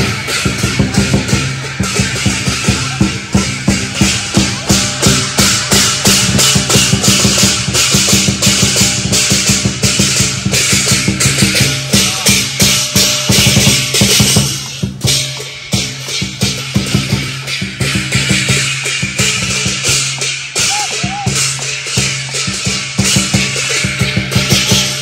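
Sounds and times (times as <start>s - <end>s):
big drum beating: 0.0s - 25.0s
crashing cymbals: 0.0s - 25.0s
gong: 0.0s - 25.0s.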